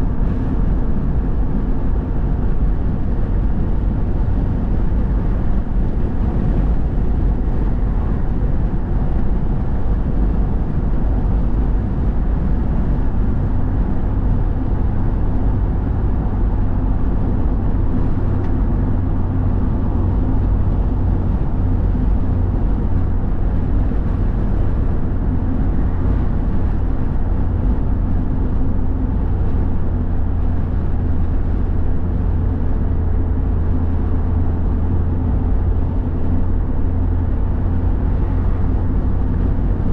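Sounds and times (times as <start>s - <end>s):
vehicle road and engine noise: 0.0s - 39.9s.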